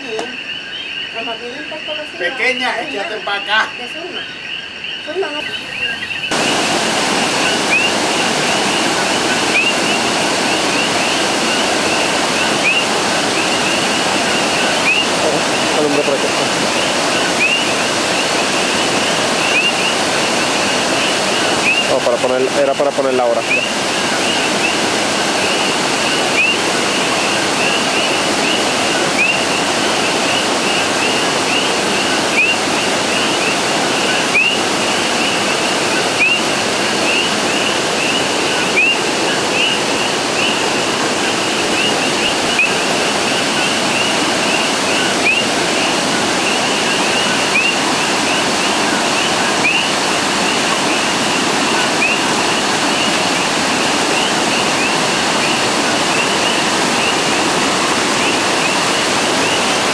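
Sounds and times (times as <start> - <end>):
frogs chirping: 0.0 - 59.9
river rushing: 5.4 - 59.9.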